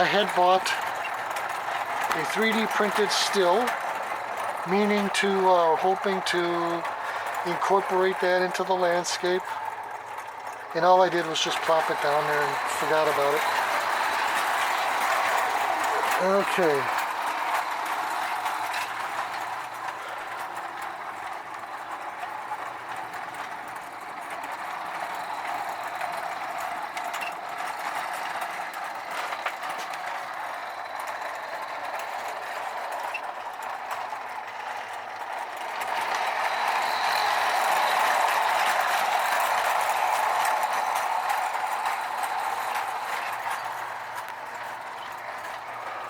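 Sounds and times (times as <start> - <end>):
toy train whirring and rattling: 0.0 - 46.0.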